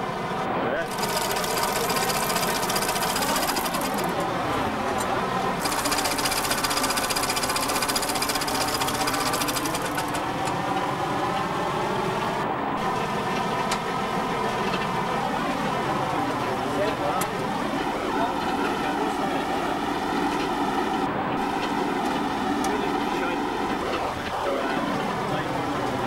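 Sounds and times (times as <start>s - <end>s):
diesel engine running hard: 0.0s - 26.0s.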